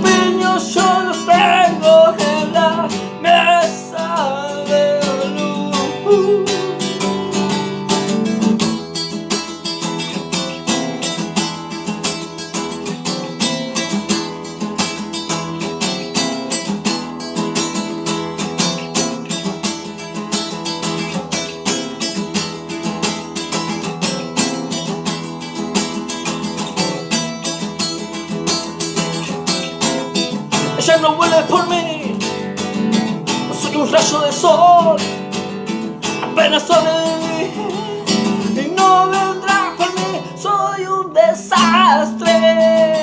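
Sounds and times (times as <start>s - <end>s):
acoustic guitar strummed: 0.0s - 43.0s.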